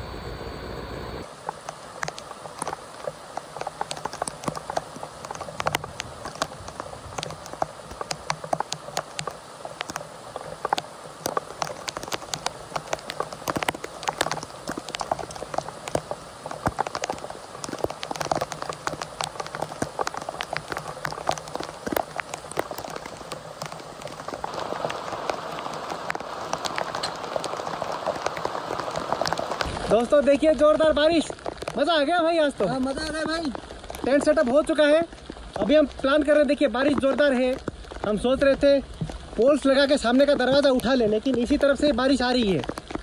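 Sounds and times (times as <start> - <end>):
hiss of rain: 0.0 - 43.0
raindrops tapping on a tent: 1.2 - 43.0.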